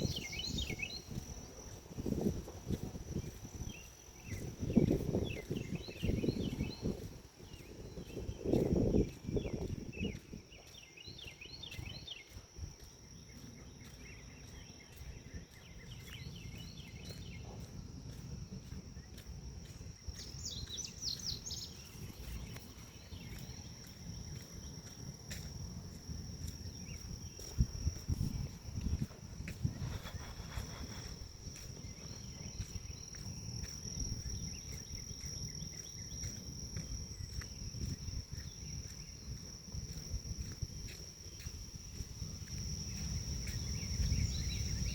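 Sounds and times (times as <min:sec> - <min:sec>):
wind rumbling: 0:00.0 - 0:10.6, 0:15.1 - 0:44.9
insects trilling: 0:00.0 - 0:44.9
small birds chirping: 0:00.0 - 0:44.9
walking rumble: 0:00.0 - 0:44.9.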